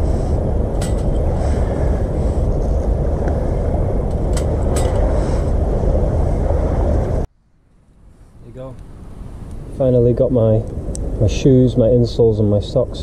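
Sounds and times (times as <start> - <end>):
low rushing noise: 0.0 - 13.0.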